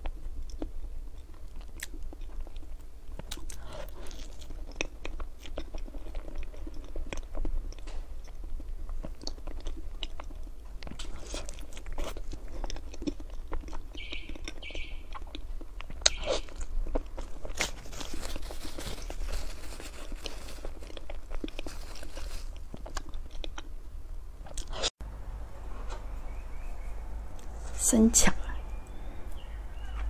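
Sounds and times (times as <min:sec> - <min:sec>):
person chewing soft cake: 0:00.0 - 0:24.9.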